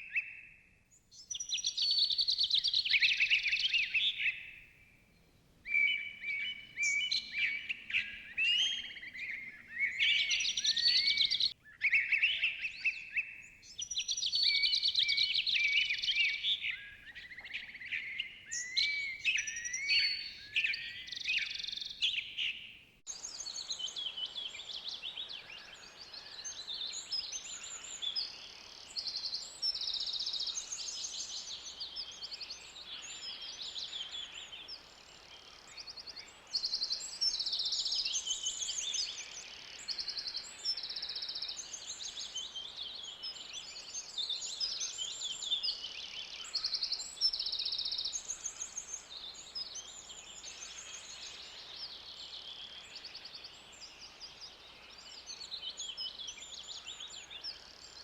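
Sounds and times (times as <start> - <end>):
songbirds trilling and chirping: 0.9 - 58.0.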